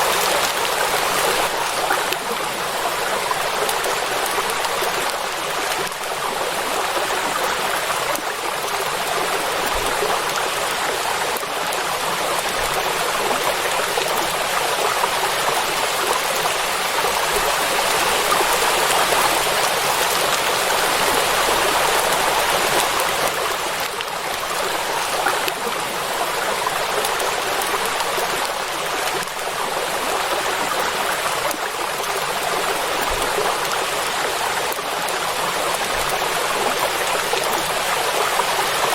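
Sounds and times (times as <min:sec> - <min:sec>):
heavy rain on water: 0:00.0 - 0:38.9.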